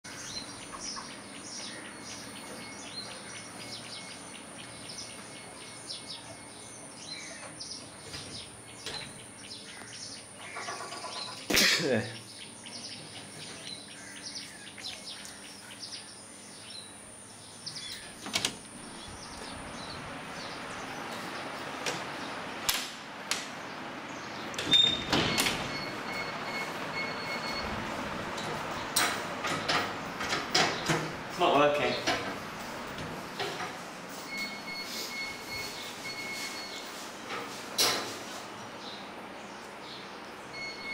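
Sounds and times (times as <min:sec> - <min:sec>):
birds chirping: 0:00.1 - 0:22.7, 0:23.5 - 0:37.0, 0:38.4 - 0:40.9.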